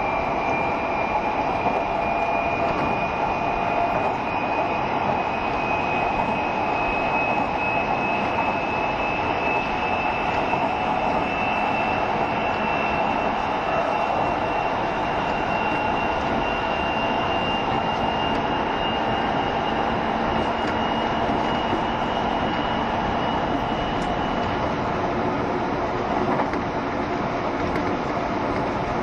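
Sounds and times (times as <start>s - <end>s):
high train whine: 0.0s - 29.0s
train rolling rumble: 0.0s - 29.0s.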